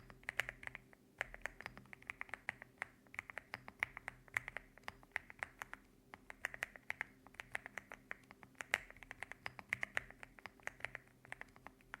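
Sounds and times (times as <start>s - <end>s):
typing on a mechanical keyboard: 0.0s - 12.0s.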